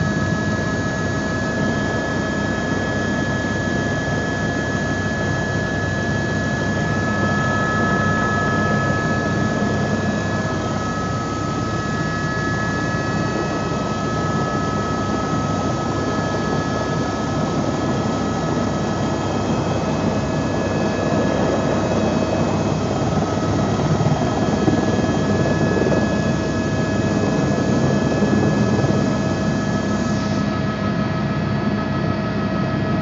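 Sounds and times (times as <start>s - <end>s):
helicopter engine and rotor rumble: 0.0s - 33.0s
steady high whine: 0.0s - 33.0s.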